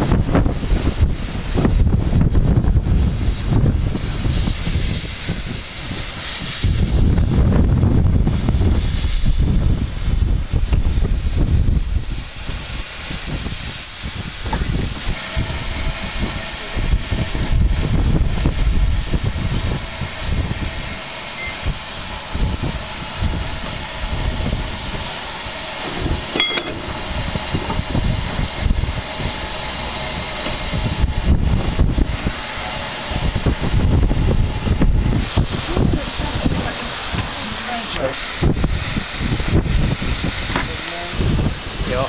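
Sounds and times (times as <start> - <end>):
steam locomotive hissing: 0.0 - 42.0
wind buffeting microphone: 0.0 - 42.0.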